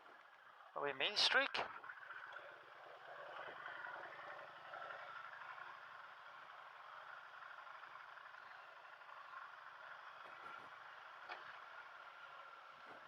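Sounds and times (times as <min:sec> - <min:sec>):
road and wind noise: 0:00.0 - 0:13.0
motorcycle engine hum: 0:01.6 - 0:13.0.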